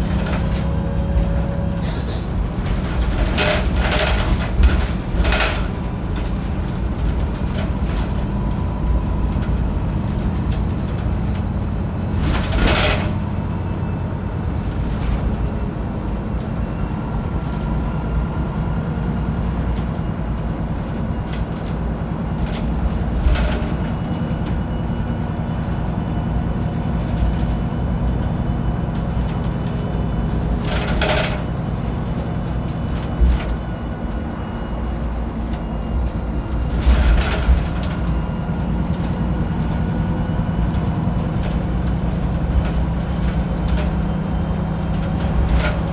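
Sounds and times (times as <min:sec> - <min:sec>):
bus engine running: 0:00.0 - 0:45.9.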